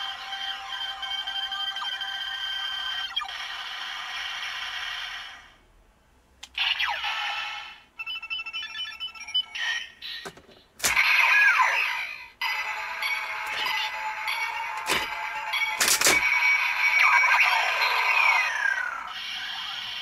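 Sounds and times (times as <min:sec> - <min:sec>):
toy belt electronic effect: 0:00.0 - 0:05.5, 0:06.6 - 0:20.0.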